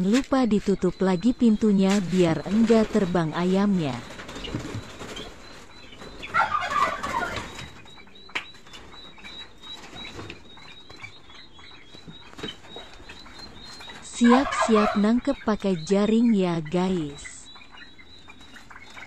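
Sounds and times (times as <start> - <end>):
birds flurrying: 0.0 - 19.0.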